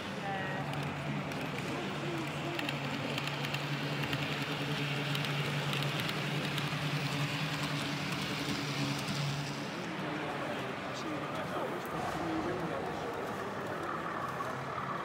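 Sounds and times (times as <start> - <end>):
background hall noise: 0.0 - 15.0
model train running on track: 0.0 - 15.0.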